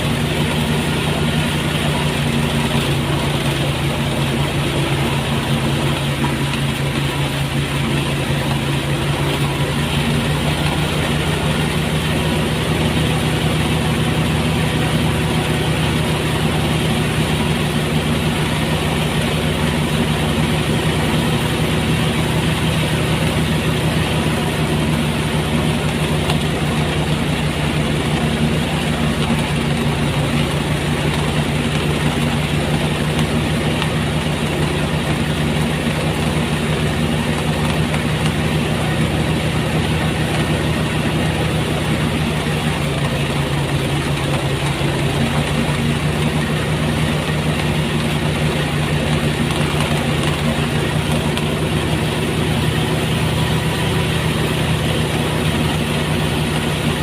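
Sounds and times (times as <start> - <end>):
threshing machine engine hum: 0.0 - 57.0.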